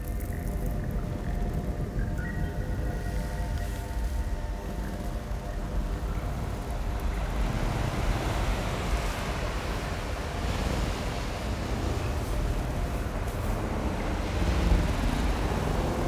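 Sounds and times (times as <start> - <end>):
ambient electronic drone: 0.0 - 16.0.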